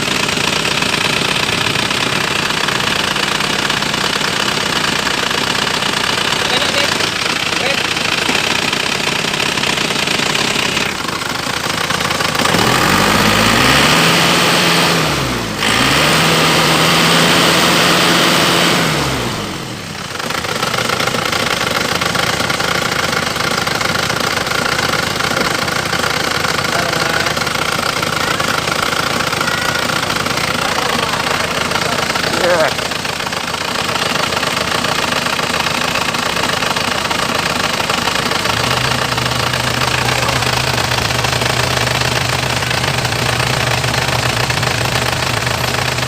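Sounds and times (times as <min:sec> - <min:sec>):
diesel engine idling and revving: 0:00.0 - 0:46.0.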